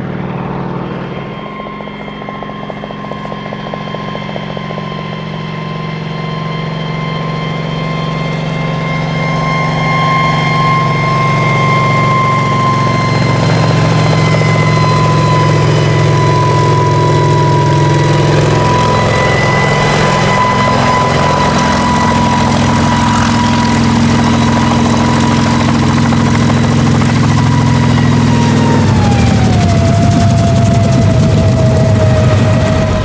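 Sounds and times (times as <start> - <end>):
helicopter engines and rotors: 0.0 - 33.0
high engine whine: 0.0 - 33.0.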